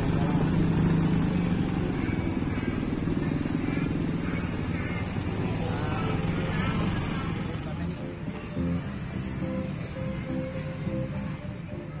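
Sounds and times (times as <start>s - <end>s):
motorcycle engine running: 0.0s - 11.1s
faint voices: 0.0s - 12.0s.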